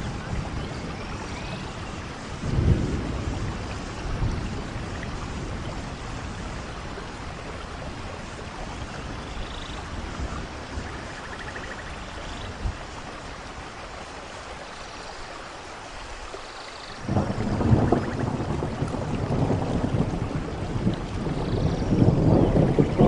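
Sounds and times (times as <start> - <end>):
low rumble of thunder: 0.0 - 13.8, 17.0 - 23.0
steady rainfall: 0.0 - 23.0.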